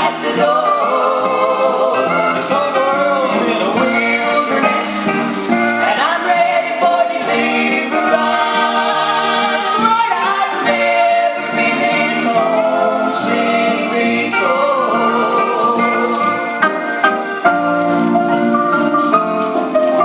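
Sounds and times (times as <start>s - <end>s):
group singing in harmony: 0.0s - 17.3s.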